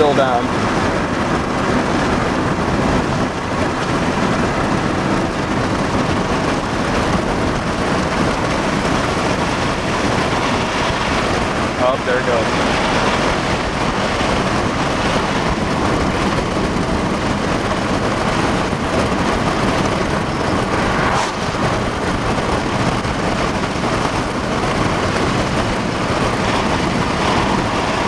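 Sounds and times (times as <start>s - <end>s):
car road and wind noise: 0.0s - 28.0s.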